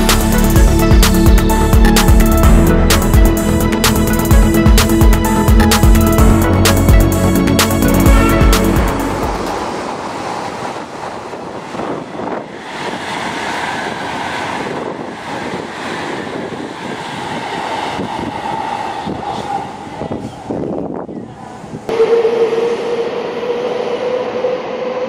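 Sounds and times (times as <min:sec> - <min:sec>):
high-speed trains rushing past: 0:00.0 - 0:25.0
wind buffeting microphone: 0:00.2 - 0:22.2.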